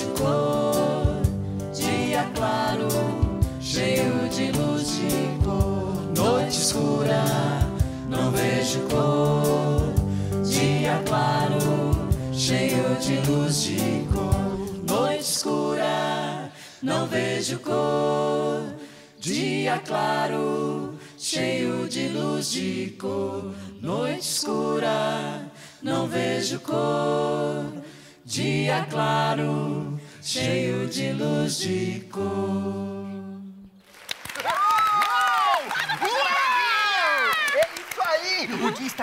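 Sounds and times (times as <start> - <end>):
people singing: 0.0 - 33.8.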